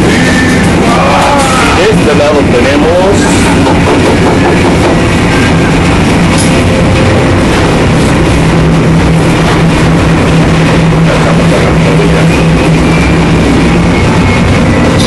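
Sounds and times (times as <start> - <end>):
ship machinery drone: 0.0 - 15.0
steady low hum: 0.0 - 15.0.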